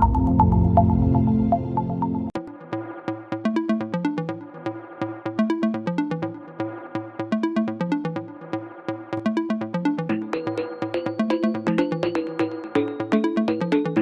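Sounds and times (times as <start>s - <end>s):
electronic music with steady beat: 0.0s - 14.0s.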